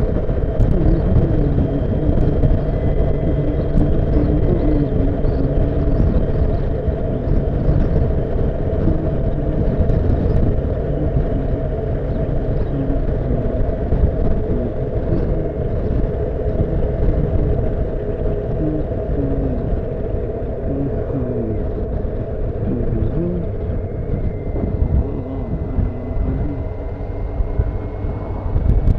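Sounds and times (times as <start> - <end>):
motorcycle engine running: 0.0 - 28.9
wind rumble on microphone: 0.0 - 28.9.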